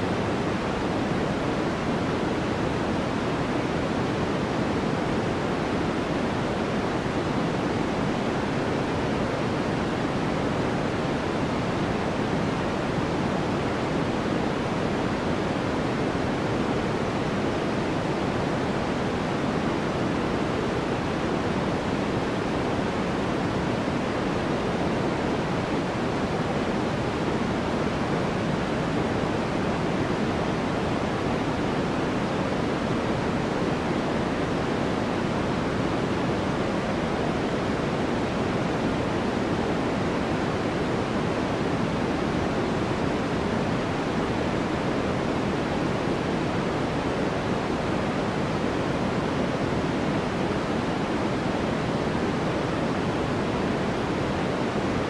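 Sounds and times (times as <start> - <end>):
steady synthesized white noise: 0.0 - 55.0.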